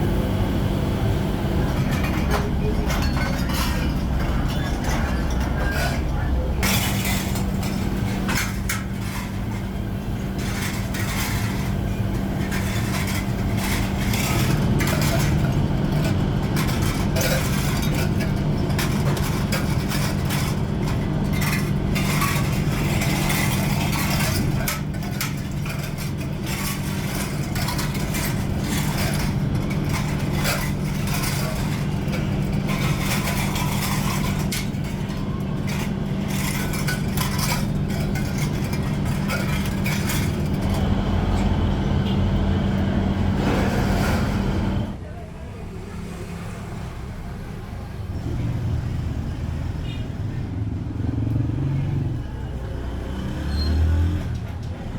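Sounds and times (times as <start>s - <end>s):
workshop machine motor hum: 0.0s - 45.0s.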